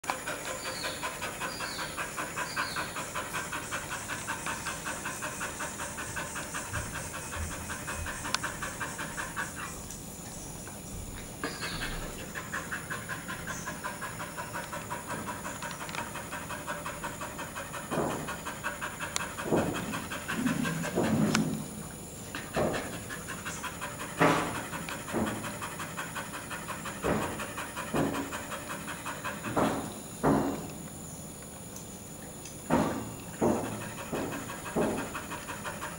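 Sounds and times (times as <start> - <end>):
dog panting fast: 0.0 - 30.6, 32.7 - 35.9.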